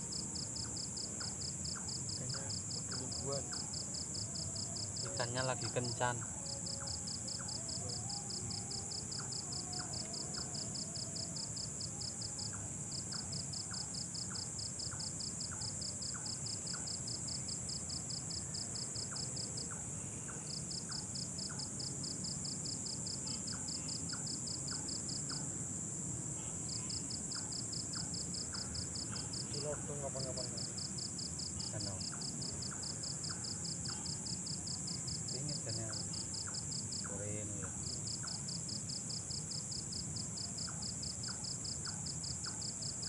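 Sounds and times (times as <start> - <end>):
cricket trilling: 0.0 - 43.0
insects shrilling: 1.0 - 41.8.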